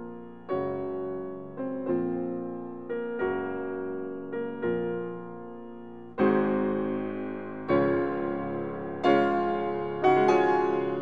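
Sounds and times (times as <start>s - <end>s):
slow gentle piano music: 0.0s - 11.0s.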